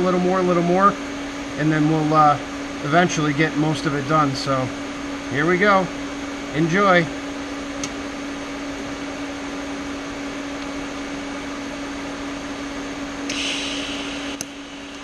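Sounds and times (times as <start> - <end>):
welder electrical hum and hiss: 0.0 - 15.0.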